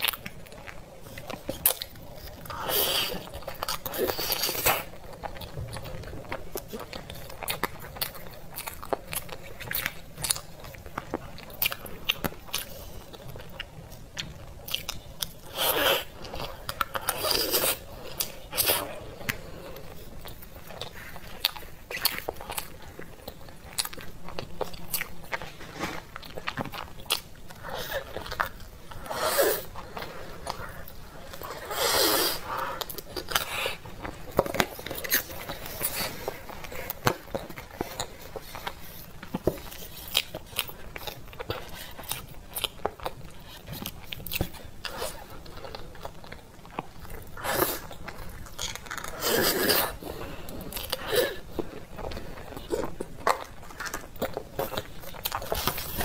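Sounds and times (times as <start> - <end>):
chewing and wet mouth sounds: 0.0 - 56.0.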